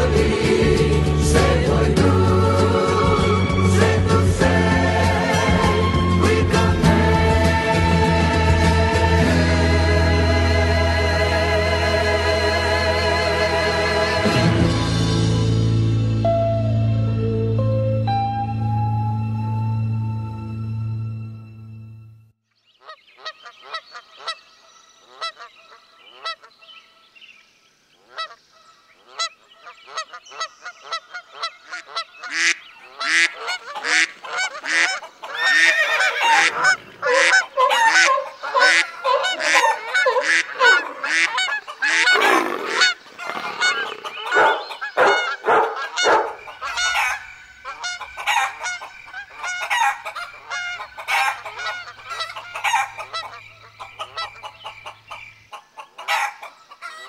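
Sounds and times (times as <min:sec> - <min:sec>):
geese honking: 0:00.0 - 0:14.4, 0:22.8 - 0:26.6, 0:28.0 - 0:28.4, 0:29.0 - 0:57.0.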